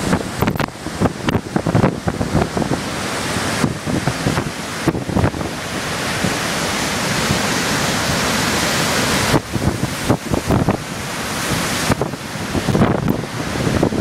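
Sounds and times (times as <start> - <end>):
storm waves breaking on rocks: 0.0 - 14.0
wind gusts buffeting microphone: 0.0 - 14.0.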